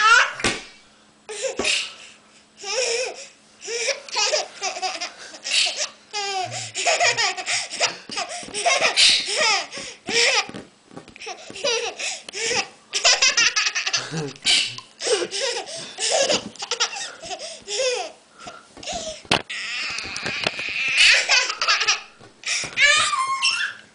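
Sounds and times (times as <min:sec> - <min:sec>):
toddler laughing: 0:02.6 - 0:10.5, 0:11.2 - 0:18.2, 0:18.9 - 0:23.8.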